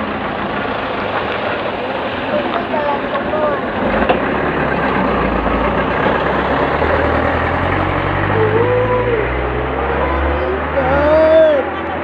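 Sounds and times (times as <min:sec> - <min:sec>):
heavy truck engine rumbling: 0:00.0 - 0:12.0.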